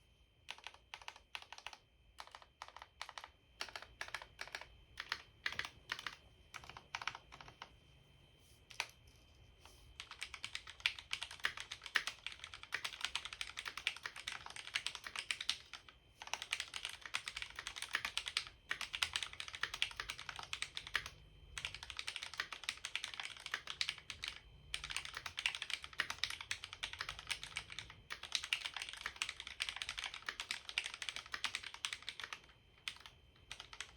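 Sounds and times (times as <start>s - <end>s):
mechanical keyboard typing: 0.5s - 7.7s, 10.0s - 33.9s.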